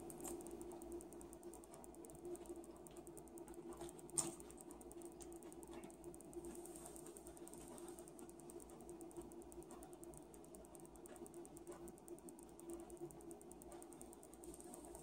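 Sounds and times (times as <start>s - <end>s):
faint chewing: 0.0s - 15.0s
steady low hum: 0.0s - 15.0s.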